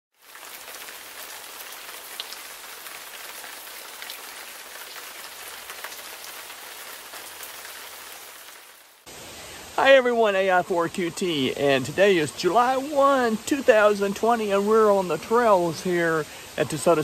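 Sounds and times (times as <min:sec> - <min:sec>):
rain drops ticking: 0:00.1 - 0:09.1, 0:09.8 - 0:17.0
steady rain hissing: 0:00.1 - 0:17.0.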